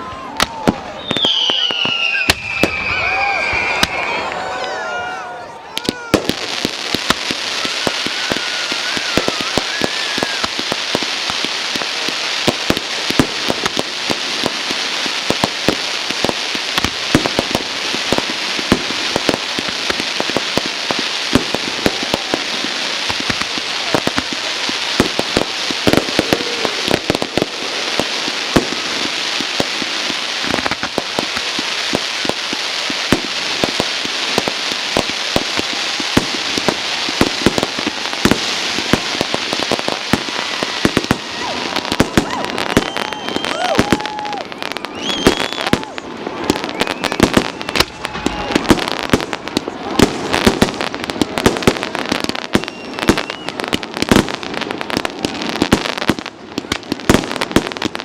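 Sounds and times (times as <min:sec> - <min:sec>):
loud firework cracks: 0:00.0 - 0:05.1, 0:05.7 - 0:58.0
fireworks crackling: 0:00.0 - 0:58.0.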